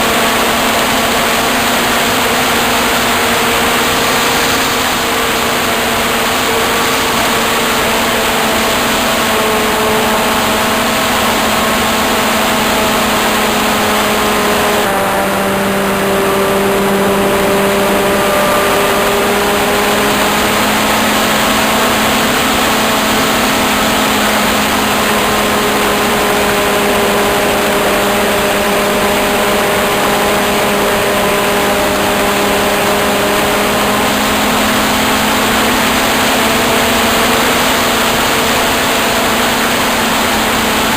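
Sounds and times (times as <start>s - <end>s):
model airplane motor running: 0.0s - 40.9s.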